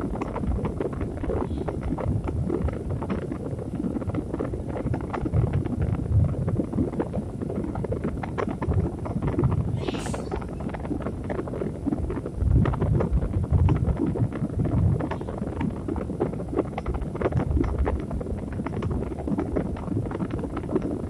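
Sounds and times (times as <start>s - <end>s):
low rumbling hiss with crackles: 0.0s - 21.0s.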